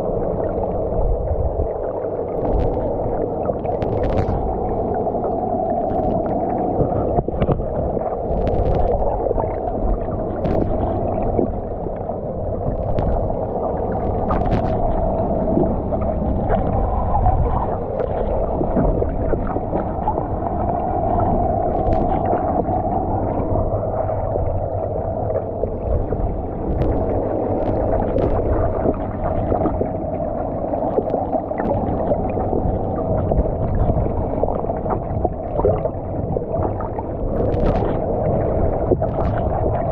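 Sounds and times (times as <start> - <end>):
muffled underwater drone: 0.0 - 39.9
underwater gurgling: 0.0 - 39.9.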